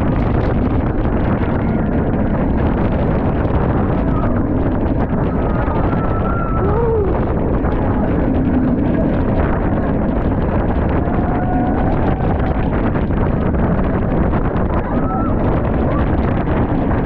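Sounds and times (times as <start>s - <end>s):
roller coaster rumble: 0.0s - 17.0s
wind roaring over microphone: 0.0s - 17.0s.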